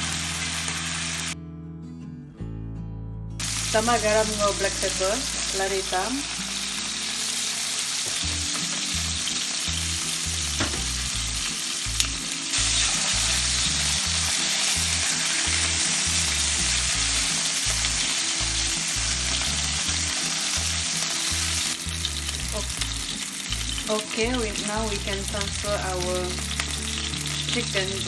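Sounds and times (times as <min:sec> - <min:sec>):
chicken sizzling in frying pan: 0:00.0 - 0:01.4, 0:03.4 - 0:28.0.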